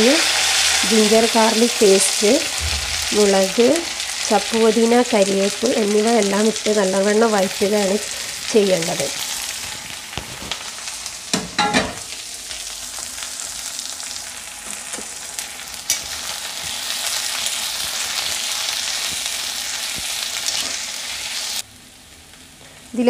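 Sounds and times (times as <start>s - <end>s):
onions sizzling in hot oil: 0.0s - 23.0s.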